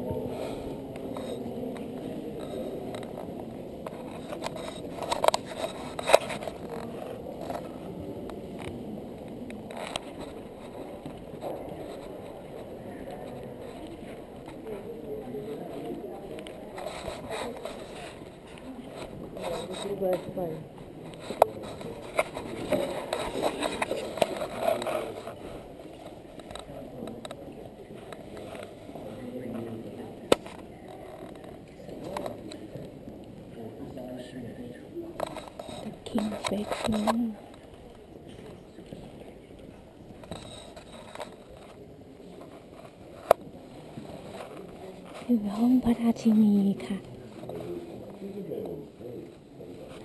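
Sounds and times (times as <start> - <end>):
murmur of a crowded hall: 0.0 - 50.0.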